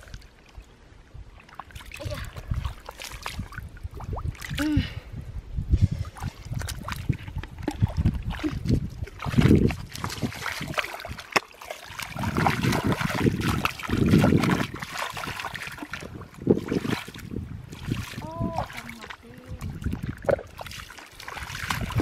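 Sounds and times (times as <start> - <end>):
water splashes: 0.0 - 5.0, 5.9 - 22.0
feet squelching through mud: 1.4 - 3.7, 6.0 - 22.0.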